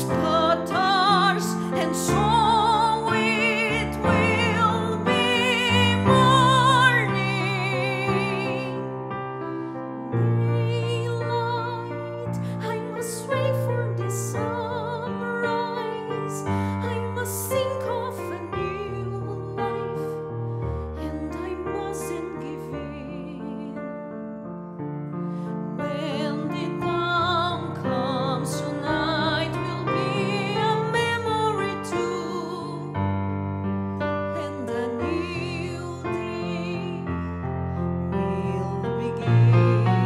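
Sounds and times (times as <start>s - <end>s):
woman singing with vibrato: 0.0s - 8.9s, 10.0s - 20.1s, 21.0s - 23.8s, 25.8s - 32.9s, 34.4s - 37.1s, 38.1s - 40.0s.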